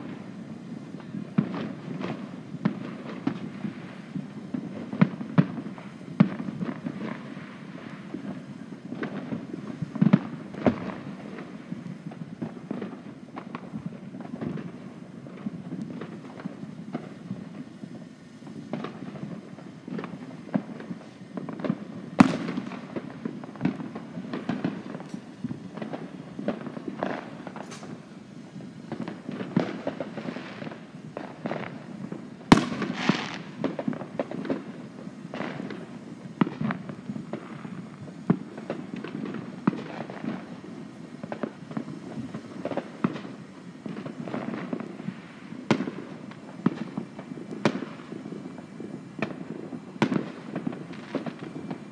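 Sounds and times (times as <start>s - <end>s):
firework crackling fizz: 0.0s - 51.9s
fireworks bangs and pops: 0.0s - 51.9s.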